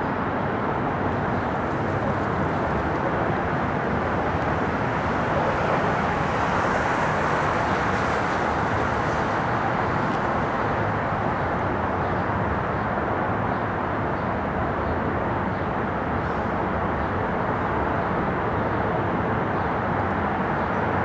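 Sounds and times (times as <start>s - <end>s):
distant jet engines rumble: 0.0s - 21.0s.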